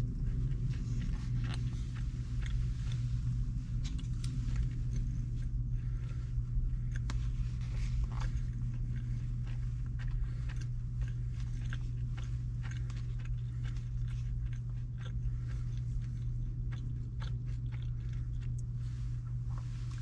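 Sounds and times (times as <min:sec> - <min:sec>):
chewing food: 0:00.0 - 0:20.0
steady low hum: 0:00.0 - 0:20.0.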